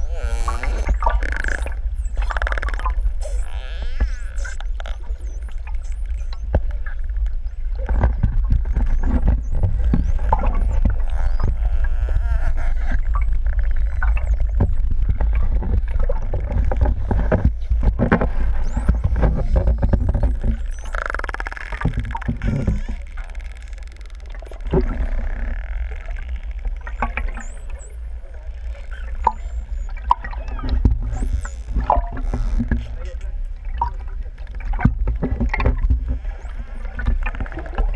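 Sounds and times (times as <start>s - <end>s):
low underwater rumble: 0.0s - 37.9s
dolphin clicks: 0.4s - 7.4s, 8.5s - 34.0s.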